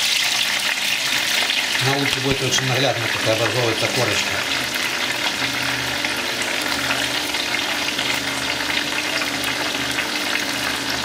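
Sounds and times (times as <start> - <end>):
hot oil bubbling and crackling: 0.0 - 11.0.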